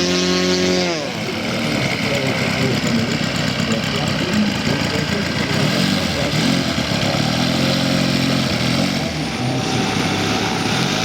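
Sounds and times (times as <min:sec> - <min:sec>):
model airplane engines droning: 0:00.0 - 0:11.0.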